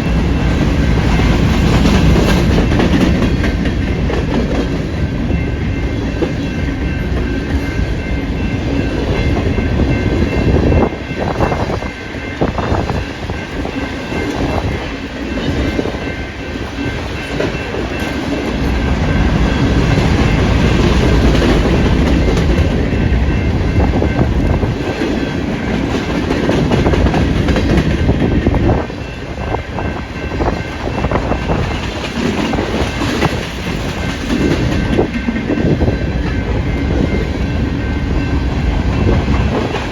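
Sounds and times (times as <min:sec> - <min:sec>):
freight train rolling past: 0:00.0 - 0:39.9
wind buffeting microphone: 0:00.0 - 0:39.9.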